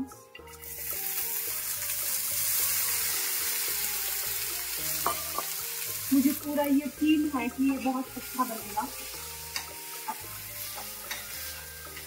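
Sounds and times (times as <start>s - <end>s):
corn sizzling in frying pan: 0.3s - 12.0s.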